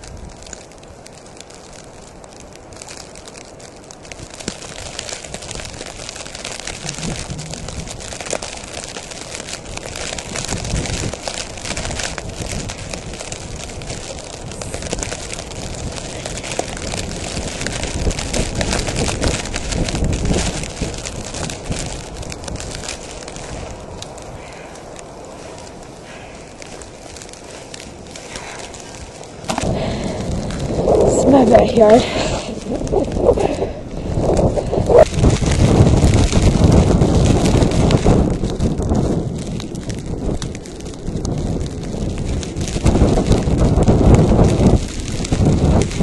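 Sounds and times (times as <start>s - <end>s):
snow crunching: 0.0s - 46.0s
wind buffeting microphone: 0.0s - 46.0s.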